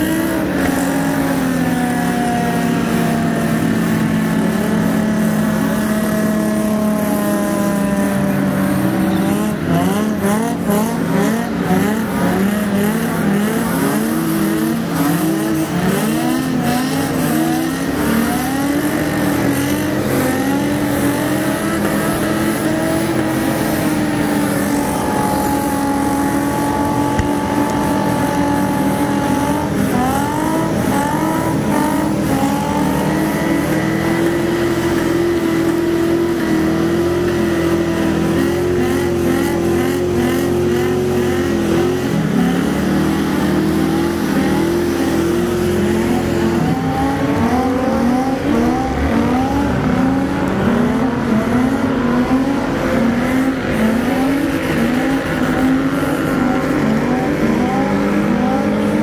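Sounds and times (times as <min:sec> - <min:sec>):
car engines revving hard: 0:00.0 - 0:59.0
spinning tyre noise: 0:00.0 - 0:59.0.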